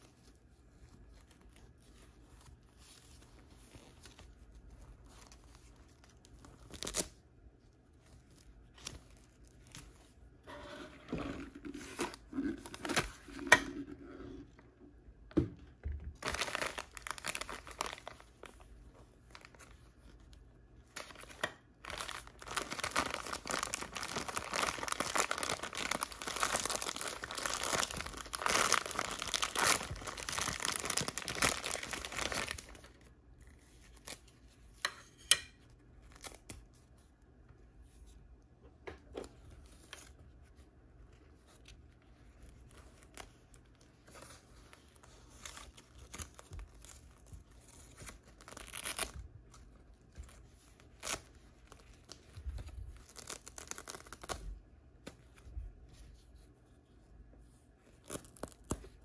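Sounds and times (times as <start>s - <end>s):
plastic packaging crinkling and tearing: 0.0s - 10.5s, 11.2s - 13.6s, 16.1s - 34.8s, 36.0s - 37.0s, 41.4s - 55.4s, 57.9s - 59.0s.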